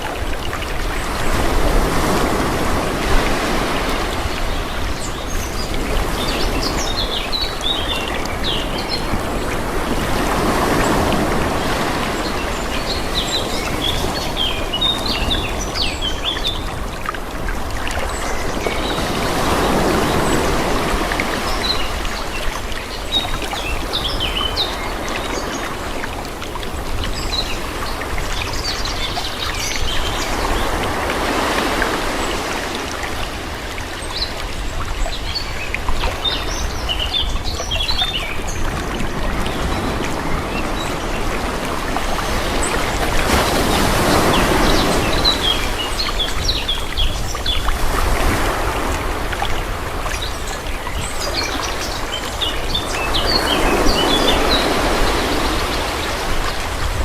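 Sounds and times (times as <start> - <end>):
calm sea waves washing: 0.0 - 57.0.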